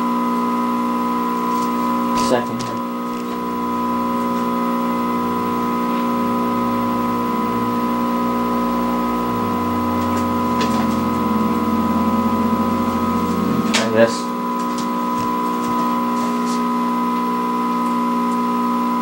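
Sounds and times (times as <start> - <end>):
electrical hum from tv speaker: 0.0 - 19.0.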